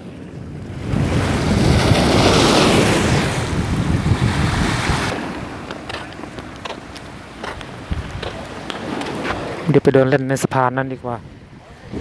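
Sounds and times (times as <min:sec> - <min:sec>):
rushing wind: 0:00.0 - 0:12.0
sea surf: 0:00.0 - 0:12.0.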